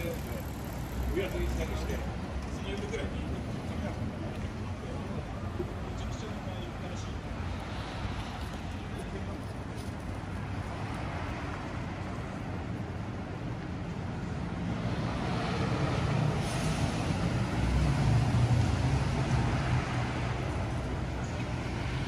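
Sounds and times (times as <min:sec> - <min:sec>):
steady traffic noise: 0:00.0 - 0:22.0.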